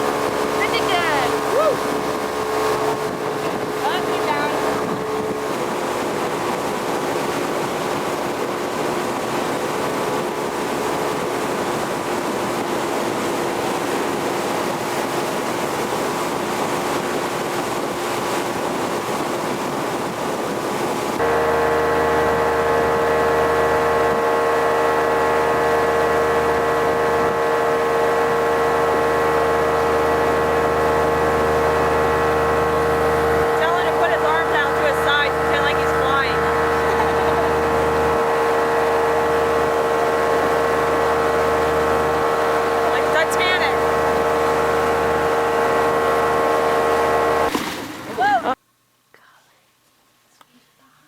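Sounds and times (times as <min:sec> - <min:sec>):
motorboat engine running: 0:00.0 - 0:48.6
wind and water rushing: 0:00.0 - 0:48.6.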